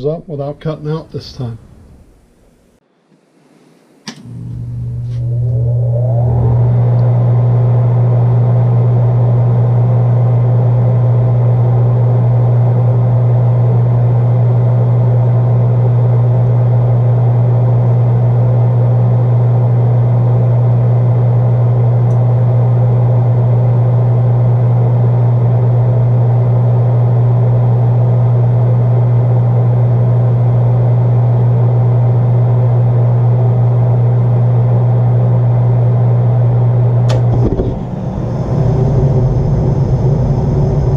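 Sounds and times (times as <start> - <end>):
gas furnace humming: 0.0 - 40.9.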